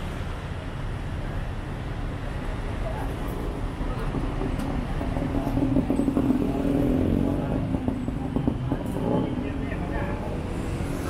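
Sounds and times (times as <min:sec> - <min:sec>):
rumble of street traffic: 0:00.0 - 0:11.0.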